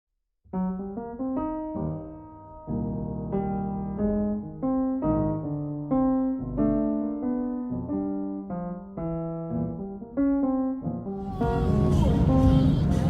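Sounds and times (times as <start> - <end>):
slow piano melody: 0.5 - 13.0.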